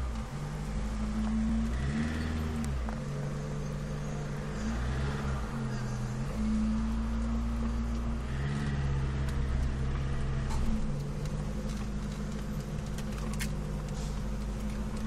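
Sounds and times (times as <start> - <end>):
car driving drone: 0.0 - 15.0.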